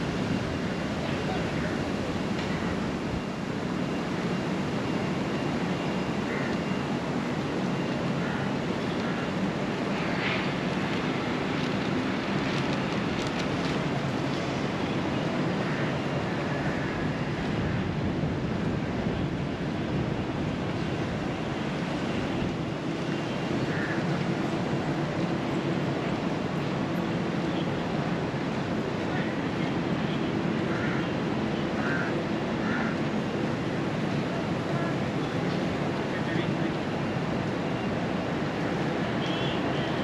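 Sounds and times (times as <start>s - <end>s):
low hum of traffic: 0.0s - 40.0s.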